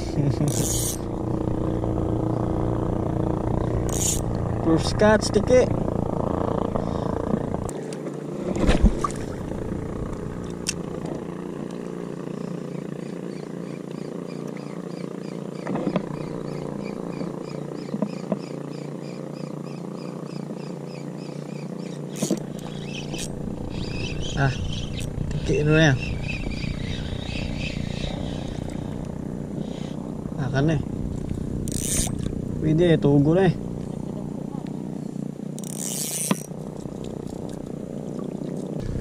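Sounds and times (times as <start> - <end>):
low outdoor drone: 0.0 - 39.0.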